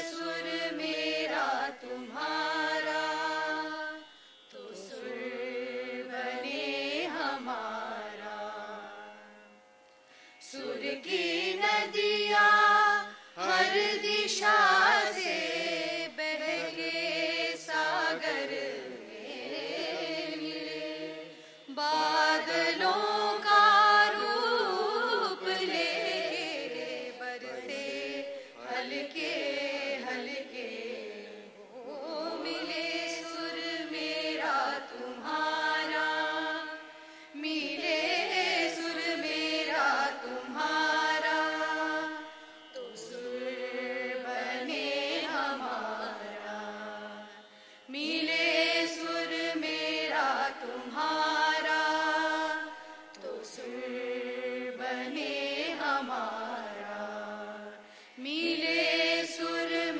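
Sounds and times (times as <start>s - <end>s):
women and girl singing: 0.0s - 9.2s, 10.4s - 47.3s, 47.9s - 59.9s.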